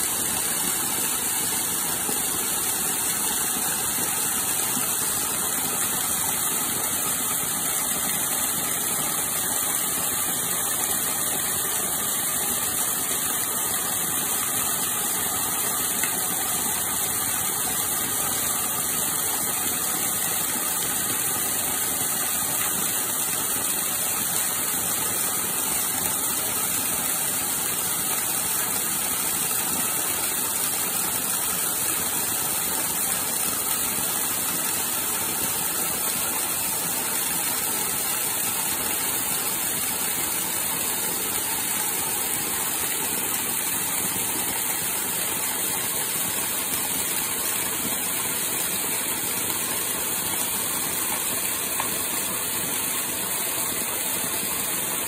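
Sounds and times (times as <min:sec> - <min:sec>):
waterfall splashing onto rock: 0:00.0 - 0:55.0.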